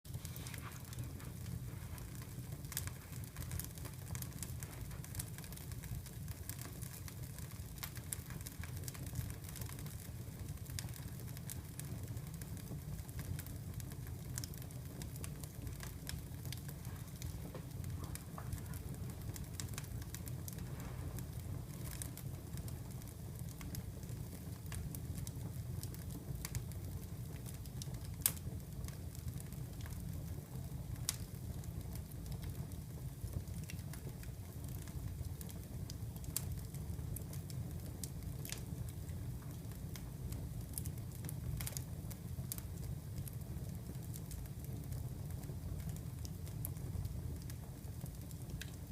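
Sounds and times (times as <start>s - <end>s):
wood fire crackling and popping: 0.1s - 48.9s.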